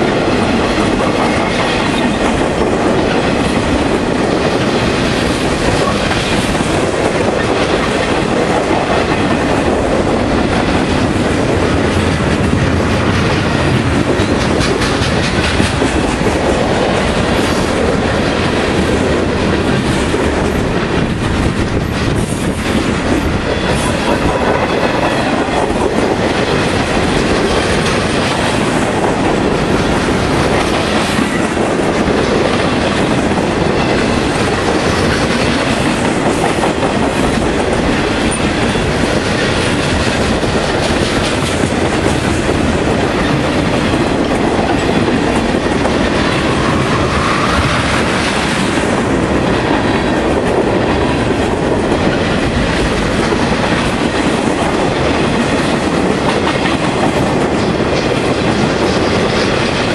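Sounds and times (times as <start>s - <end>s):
train wheels rumbling on rail: 0.0s - 59.9s
wheels clickety-clack over track: 0.0s - 59.9s.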